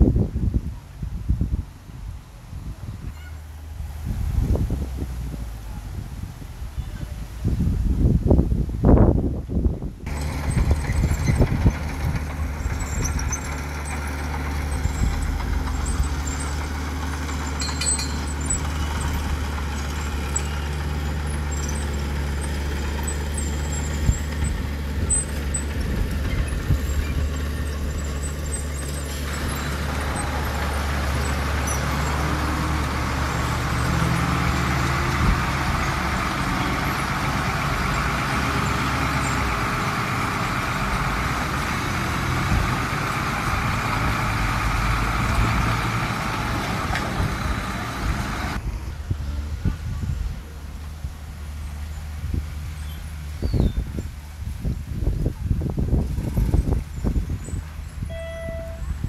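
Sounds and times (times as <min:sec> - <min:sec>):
diesel truck engine humming: 0:00.0 - 0:59.0
rough engine noise of truck pulling away: 0:00.0 - 0:59.0.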